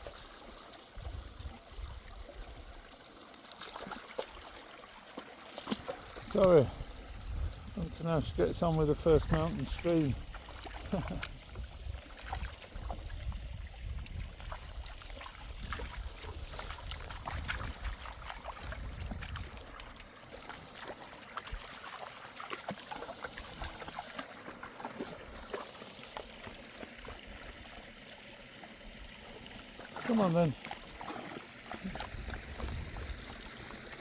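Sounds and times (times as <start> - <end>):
stream running over stones: 0.0 - 34.0.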